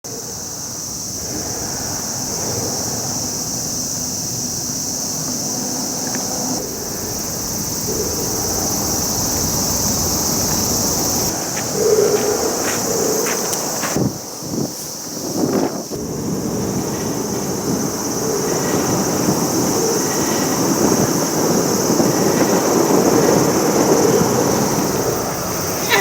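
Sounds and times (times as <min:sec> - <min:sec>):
insects buzzing: 0:00.1 - 0:26.0.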